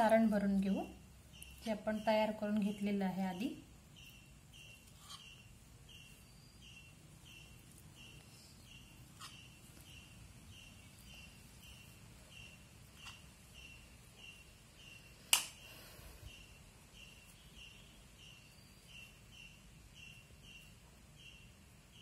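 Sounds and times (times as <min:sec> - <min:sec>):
faint steady chirping: 0:00.0 - 0:22.0.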